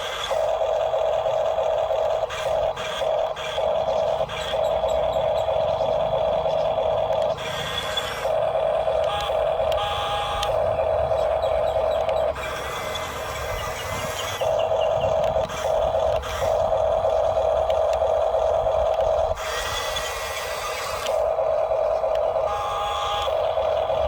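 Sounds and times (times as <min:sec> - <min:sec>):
toy vehicle motor whining: 0:00.0 - 0:24.0.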